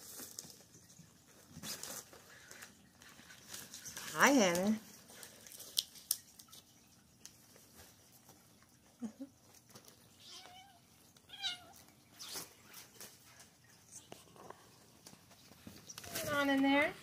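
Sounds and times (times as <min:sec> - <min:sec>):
crinkly fabric rustling: 0:00.0 - 0:17.0.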